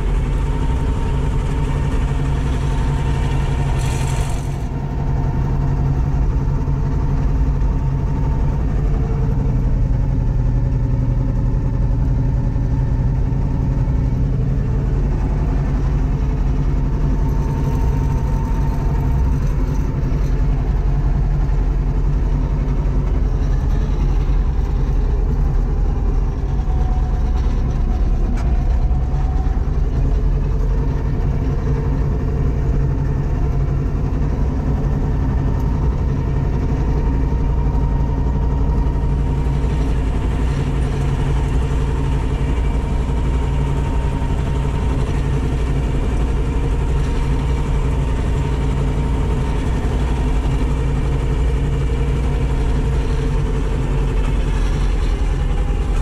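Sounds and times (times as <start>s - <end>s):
diesel tractor engine droning: 0.0s - 56.0s.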